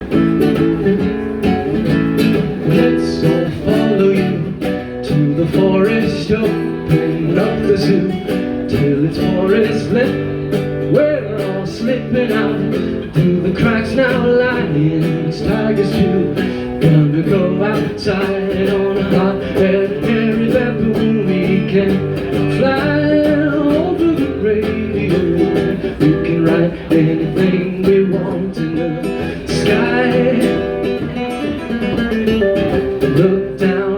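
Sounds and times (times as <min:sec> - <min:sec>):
fingerpicked acoustic guitar: 0:00.0 - 0:33.9.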